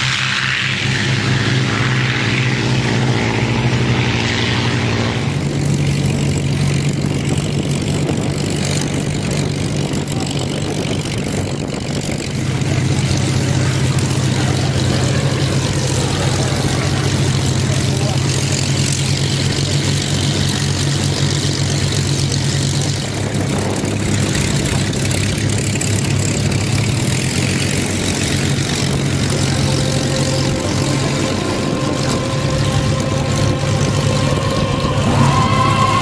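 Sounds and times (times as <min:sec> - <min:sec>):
piston aircraft engines droning: 0:00.0 - 0:36.0.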